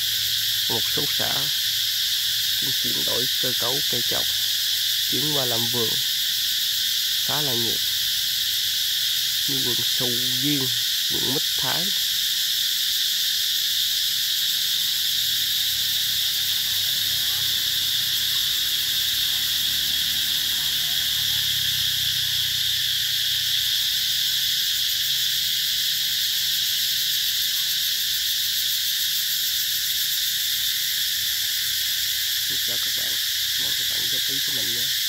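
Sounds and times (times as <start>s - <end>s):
cicadas droning: 0.0s - 35.0s.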